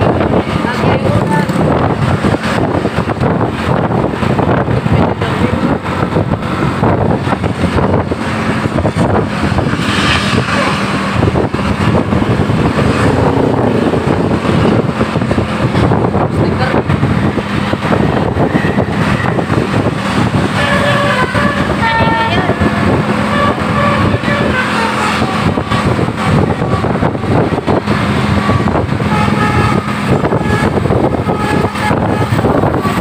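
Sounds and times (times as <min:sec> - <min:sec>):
bus engine rumbling: 0:00.0 - 0:33.0
multi-tone bus horn: 0:00.0 - 0:33.0.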